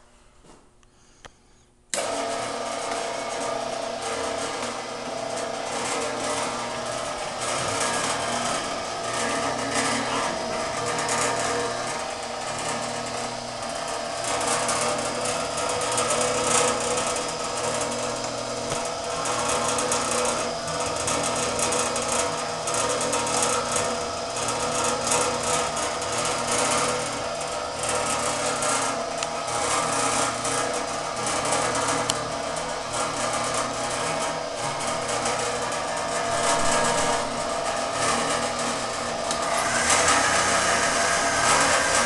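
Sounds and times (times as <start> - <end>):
motor hum: 0.0 - 42.0
fast mechanical clatter: 2.0 - 42.0.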